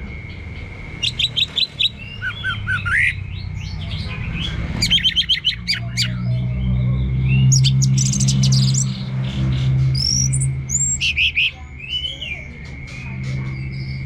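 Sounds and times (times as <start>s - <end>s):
bird singing: 0.0s - 14.0s
steady low hum: 0.0s - 14.0s.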